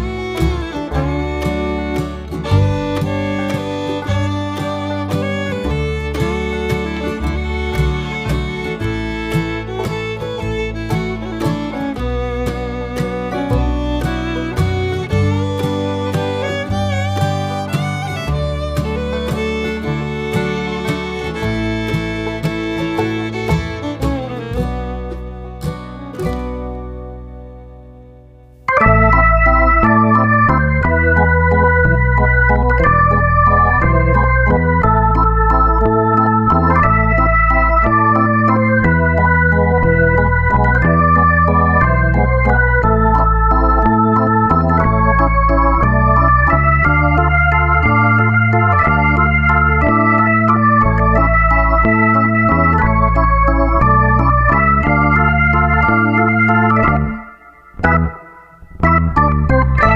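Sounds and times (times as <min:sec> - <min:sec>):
electronic keyboard organ chords: 0:00.0 - 0:59.9.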